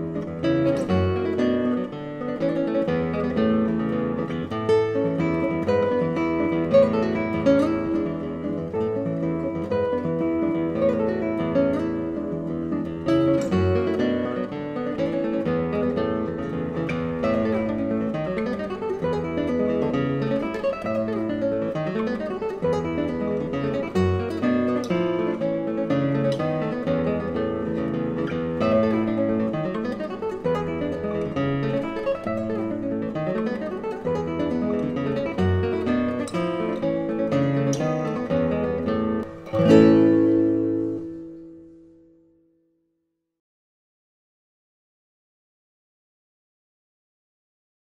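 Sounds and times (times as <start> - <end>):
acoustic guitar music: 0.0 - 42.8.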